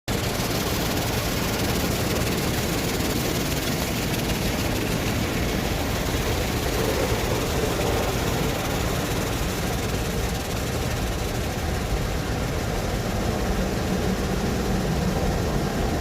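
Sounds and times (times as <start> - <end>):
car wash machine running: 0.1 - 16.0.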